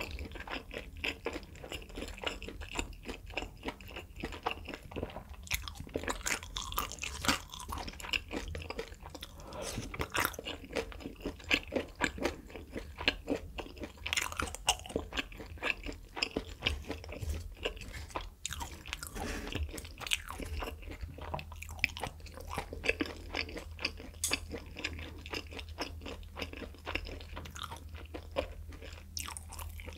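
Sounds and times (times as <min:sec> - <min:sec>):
chewing with mouth clicks and pops: 0:00.0 - 0:29.9.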